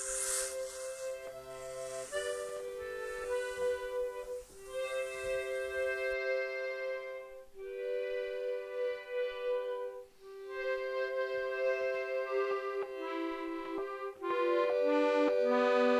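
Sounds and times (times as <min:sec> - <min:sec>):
accordion playing held chords: 0:00.0 - 0:15.9.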